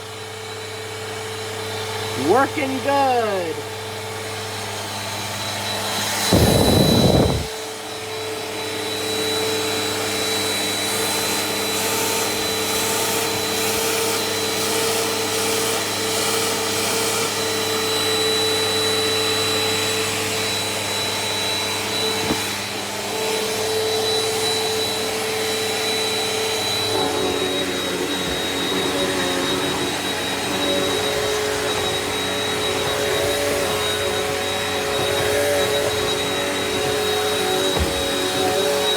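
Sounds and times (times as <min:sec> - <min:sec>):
vacuum cleaner running: 0:00.0 - 0:02.9, 0:03.5 - 0:38.9.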